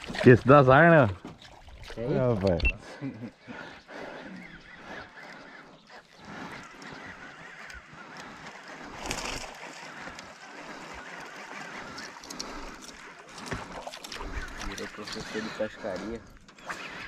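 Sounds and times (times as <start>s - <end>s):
birds honking: 3.3s - 17.0s.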